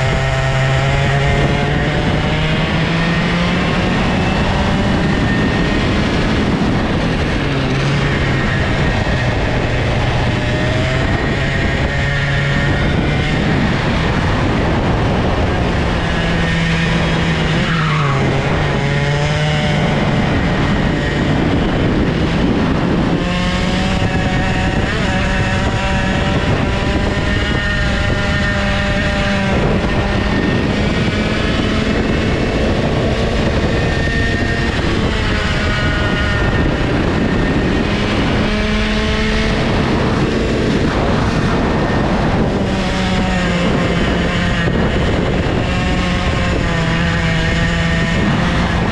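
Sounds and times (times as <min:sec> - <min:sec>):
two-stroke kart engine racing: 0:00.0 - 0:48.9.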